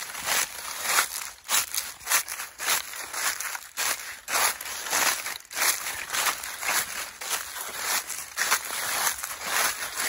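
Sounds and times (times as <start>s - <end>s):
footsteps crunching dry leaves: 0.0s - 10.0s.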